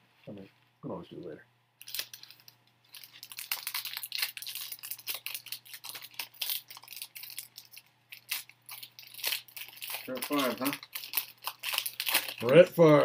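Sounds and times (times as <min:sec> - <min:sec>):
card packs crinkling and rustling: 0:01.8 - 0:13.0.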